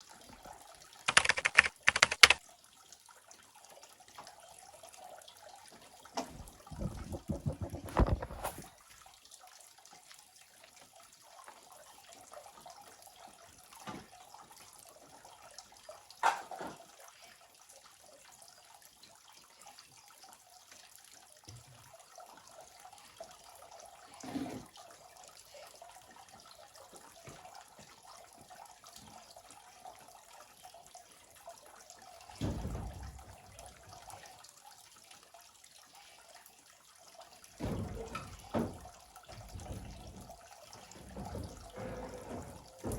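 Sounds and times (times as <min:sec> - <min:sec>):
running water trickling: 0:00.0 - 0:42.9.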